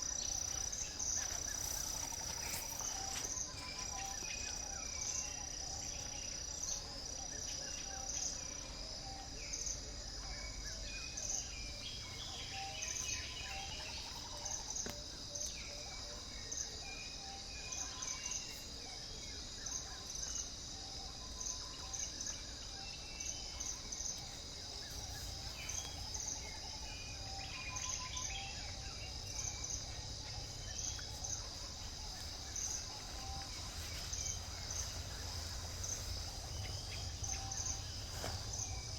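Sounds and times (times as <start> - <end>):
insects droning high: 0.0 - 38.9.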